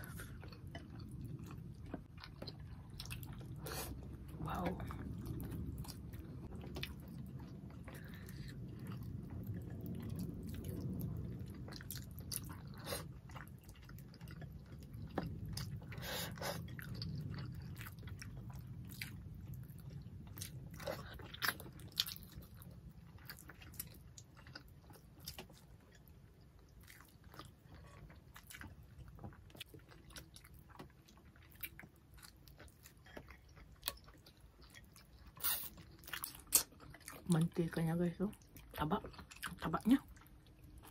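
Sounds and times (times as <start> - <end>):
people chewing: 0.0 - 37.5.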